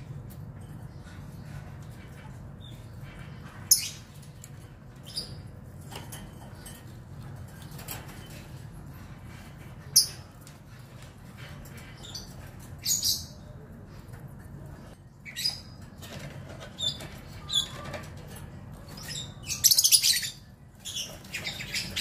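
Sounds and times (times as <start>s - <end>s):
lovebirds chirping and chattering: 0.0s - 22.0s.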